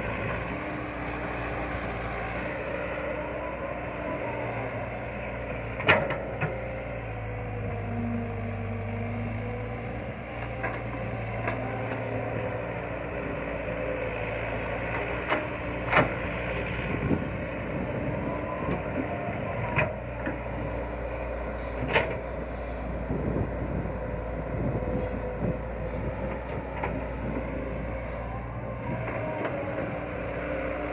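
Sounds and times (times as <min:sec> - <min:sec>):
excavator engine running: 0:00.0 - 0:30.9.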